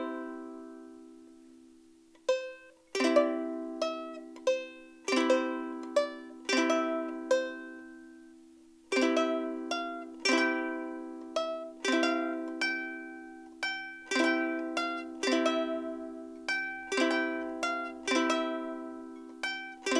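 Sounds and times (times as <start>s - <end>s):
ukulele strumming chords: 0.0s - 19.9s.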